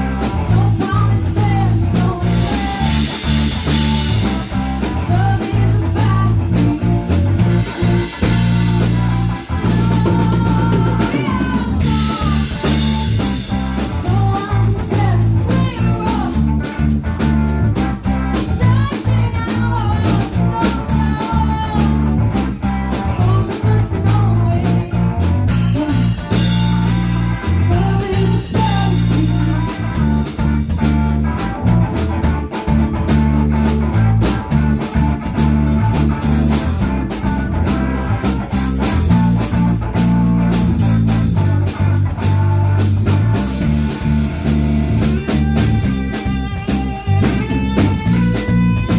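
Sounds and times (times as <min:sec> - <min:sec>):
live blues-rock band playing: 0:00.0 - 0:48.9.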